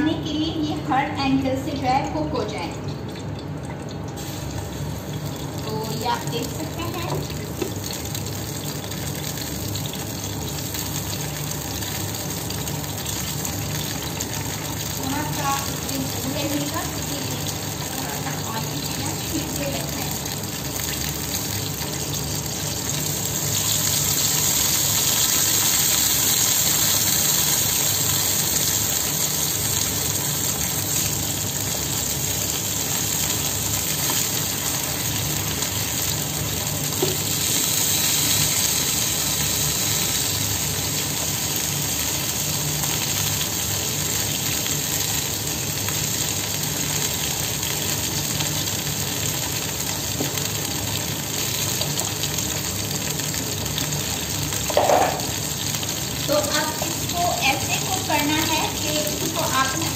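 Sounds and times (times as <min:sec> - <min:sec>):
eggplant slices sizzling in oil: 0:00.2 - 0:59.9.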